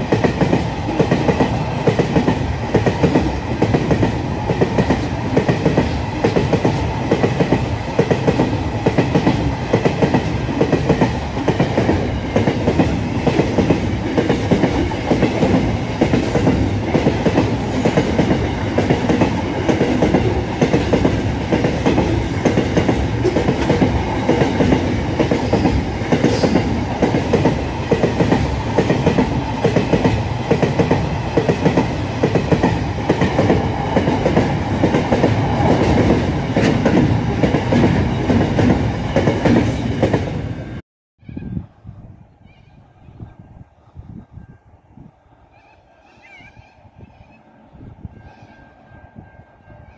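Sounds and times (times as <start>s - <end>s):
freight train passing: 0.0s - 49.9s.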